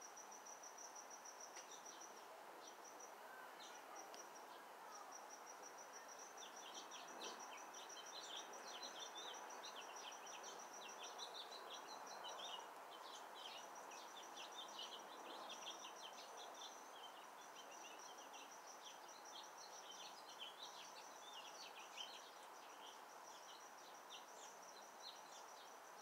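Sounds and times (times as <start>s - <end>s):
faint birds chirping: 0.0s - 26.0s
low background hiss: 0.0s - 26.0s.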